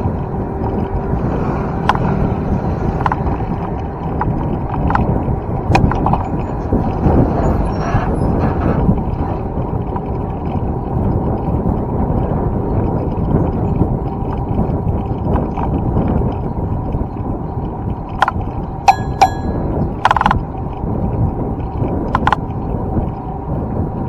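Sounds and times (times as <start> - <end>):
road noise: 0.0 - 24.0
wind rush on microphone: 0.0 - 24.0.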